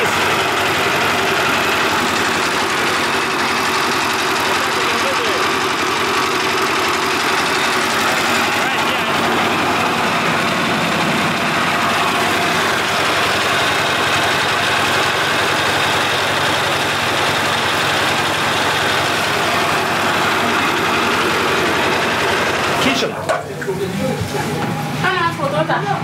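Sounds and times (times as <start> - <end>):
rice-hulling machine running: 0.0 - 26.0.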